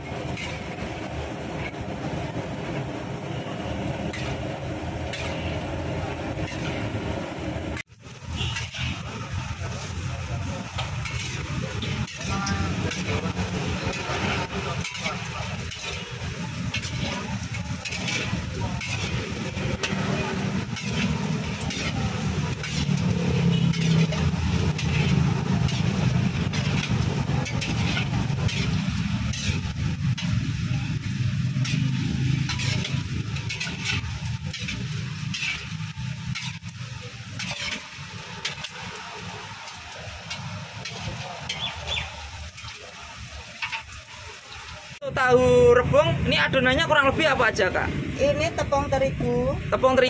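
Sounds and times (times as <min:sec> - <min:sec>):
gas burner rumble: 0:00.0 - 0:45.0
deep-frying sizzle and crackles: 0:00.0 - 0:50.0.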